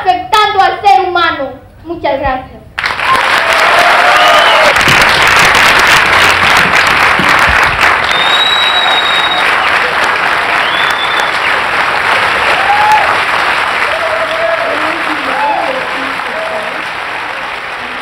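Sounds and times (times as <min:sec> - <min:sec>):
audience applauding: 0:02.8 - 0:18.0.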